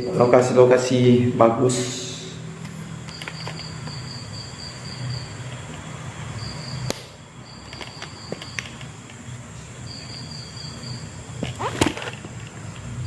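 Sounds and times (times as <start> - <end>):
insect trilling: 2.2 - 13.0.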